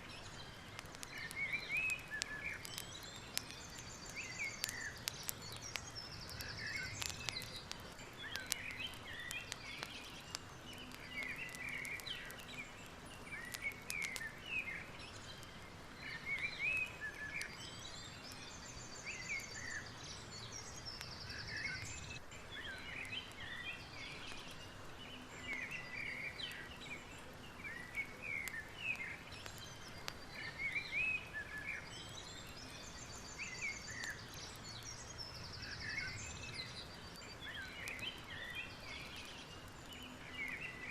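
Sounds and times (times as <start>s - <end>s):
birds chirping: 0.0s - 40.9s
soft hiss: 0.0s - 40.9s.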